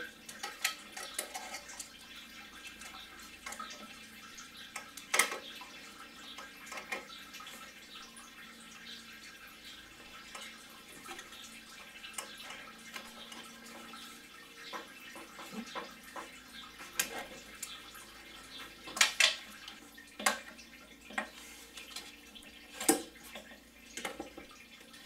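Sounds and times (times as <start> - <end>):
coolant trickling and dripping: 0.0 - 25.0.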